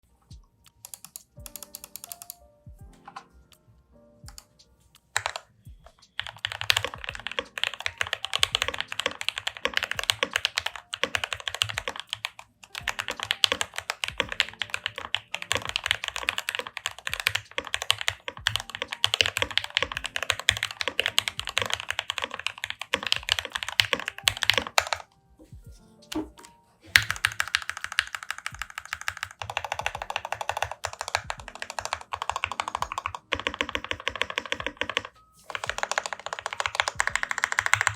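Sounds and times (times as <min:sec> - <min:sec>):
fast mechanical keyboard typing: 0:00.7 - 0:02.4, 0:05.2 - 0:05.5, 0:06.1 - 0:25.1, 0:26.9 - 0:37.9.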